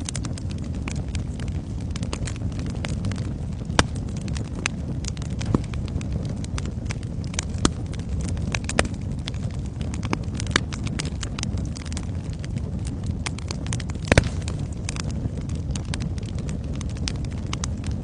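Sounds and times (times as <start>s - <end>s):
fire popping and snapping: 0.0s - 18.0s
fire rumbling: 0.0s - 18.0s.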